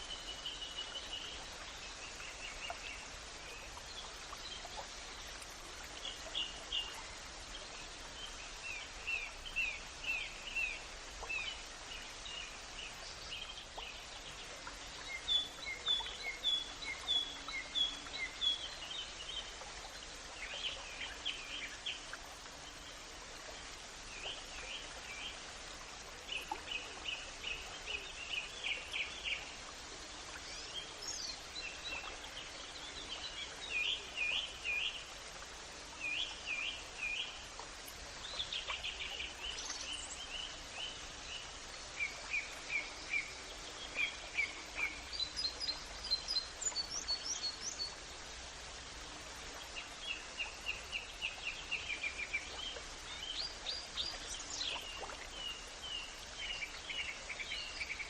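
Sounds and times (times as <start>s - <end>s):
outdoor ambient hiss: 0.0s - 58.0s
songbirds chirping: 0.0s - 58.0s.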